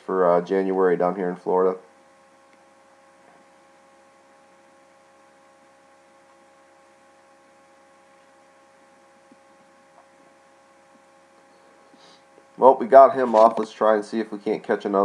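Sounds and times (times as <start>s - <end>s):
faint electrical hum: 0.0s - 15.0s
low hiss: 0.0s - 15.0s.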